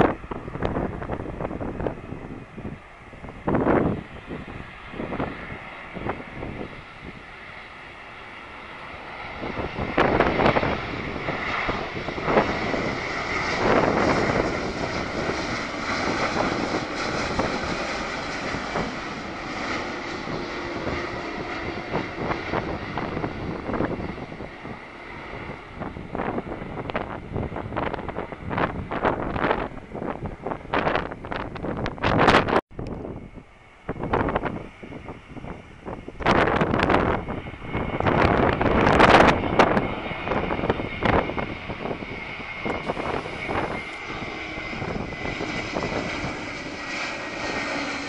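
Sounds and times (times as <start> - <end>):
jet airliner passing overhead: 0.0 - 48.0
wind buffeting microphone: 0.0 - 48.0.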